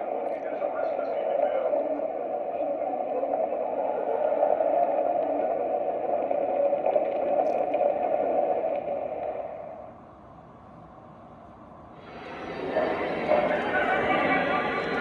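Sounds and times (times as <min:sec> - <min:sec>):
recorded background noise from speaker: 0:00.0 - 0:15.0.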